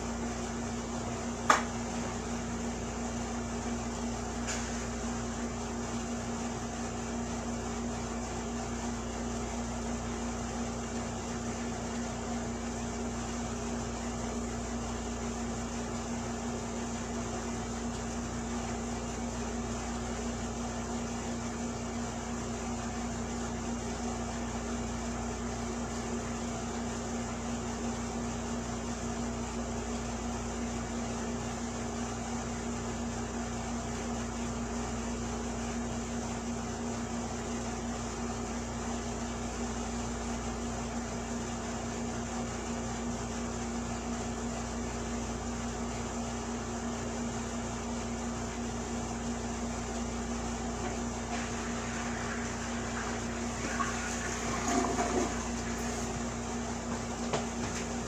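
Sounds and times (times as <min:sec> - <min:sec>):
steady hum with hiss: 0:00.0 - 0:58.0.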